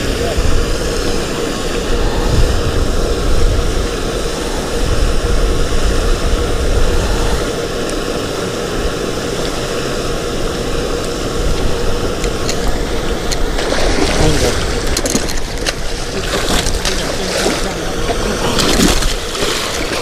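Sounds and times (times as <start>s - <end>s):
steady hum: 0.0s - 20.0s
wind buffeting microphone: 0.0s - 20.0s.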